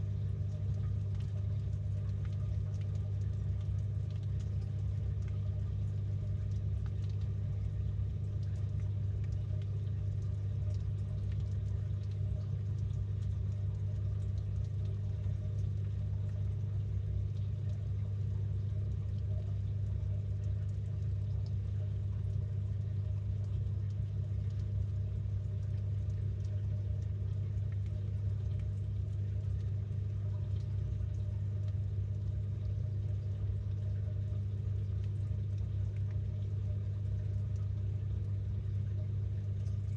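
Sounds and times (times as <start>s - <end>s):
washing machine rumbling: 0.0s - 39.9s.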